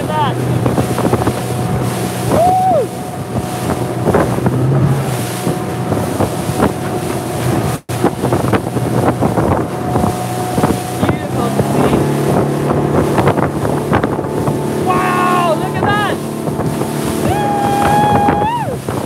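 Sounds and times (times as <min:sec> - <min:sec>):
boat motor running: 0:00.0 - 0:19.0
hull slapping choppy water: 0:00.0 - 0:19.0
wind buffeting microphone: 0:00.0 - 0:19.0.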